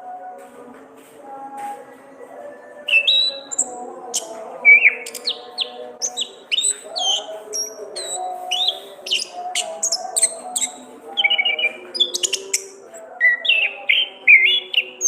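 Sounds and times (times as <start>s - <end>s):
thrush singing chirps and whistles: 2.8s - 15.0s.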